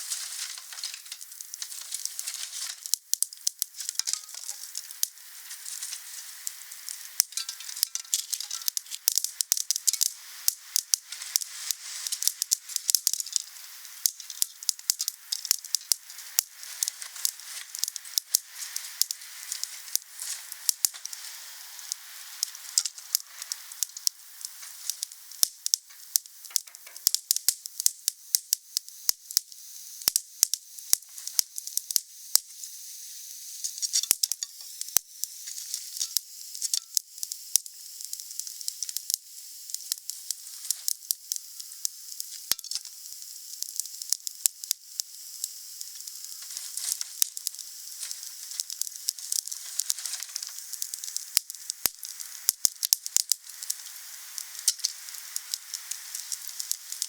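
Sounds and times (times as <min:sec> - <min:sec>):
fire crackling and popping: 0:00.0 - 0:32.5, 0:33.6 - 0:57.0
high-pitched hiss: 0:00.0 - 0:57.0.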